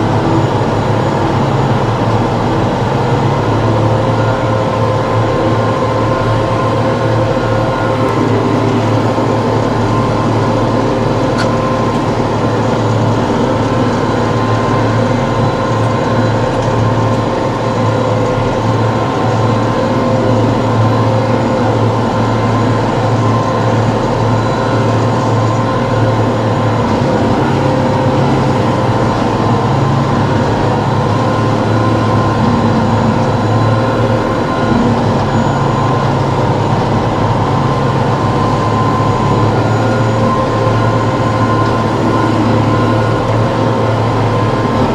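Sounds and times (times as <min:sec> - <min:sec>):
tractor diesel engine drone: 0:00.0 - 0:44.9.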